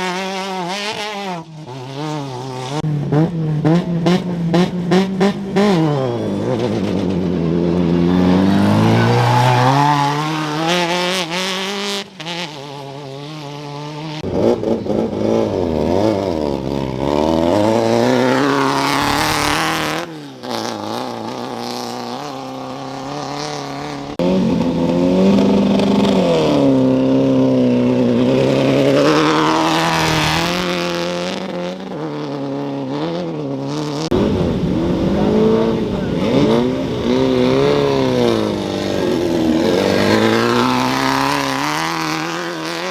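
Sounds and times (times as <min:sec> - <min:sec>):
race vehicle engines revving: 0:00.0 - 0:42.9.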